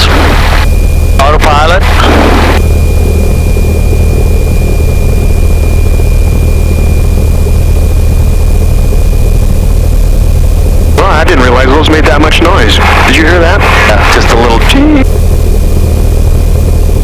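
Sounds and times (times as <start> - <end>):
aircraft engine and propeller running: 0.0 - 17.0
high-pitched whine: 0.0 - 17.0.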